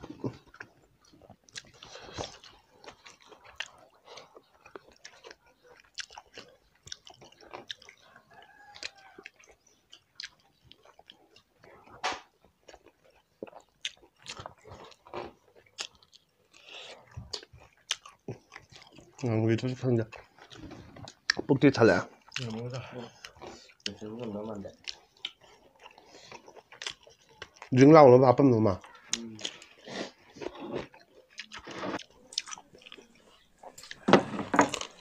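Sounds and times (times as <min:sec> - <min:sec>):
people chewing food: 0:00.0 - 0:35.0.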